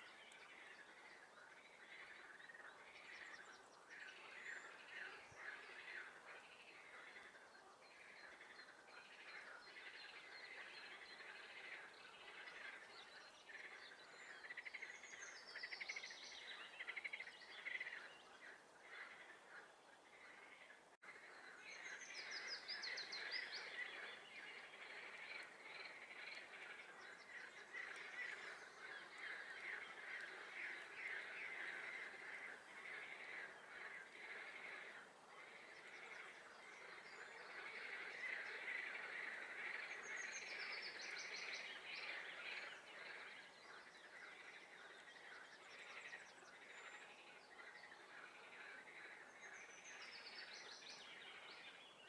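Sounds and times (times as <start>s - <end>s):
frogs croaking in chorus: 0.4s - 51.4s.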